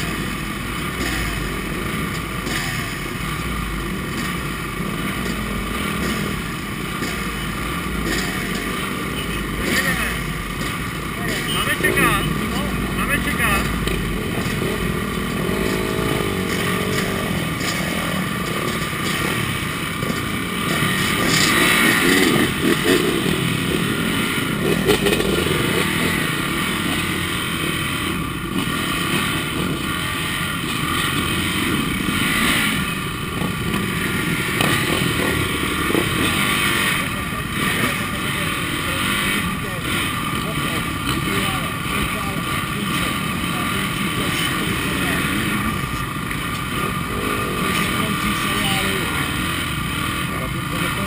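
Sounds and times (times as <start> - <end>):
motorcycle engine revving: 0.0 - 51.0
motorcycle engines running: 0.0 - 51.0.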